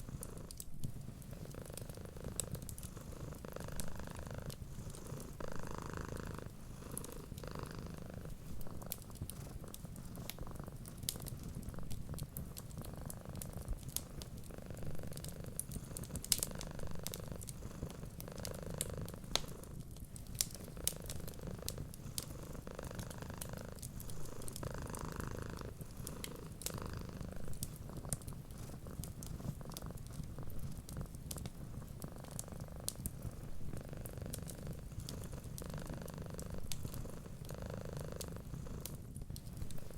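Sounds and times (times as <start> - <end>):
cat purring: 0.0 - 39.9
wood fire crackling: 0.0 - 39.9.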